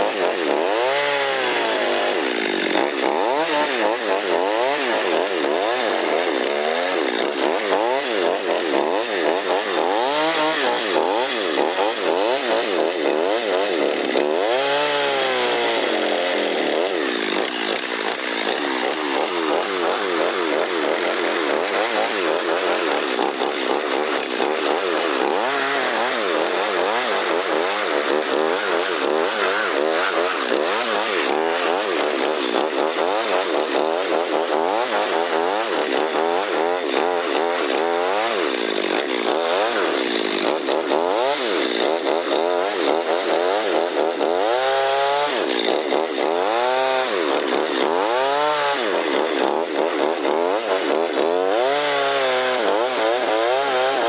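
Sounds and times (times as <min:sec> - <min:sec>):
small petrol engine revving: 0:00.0 - 0:54.0.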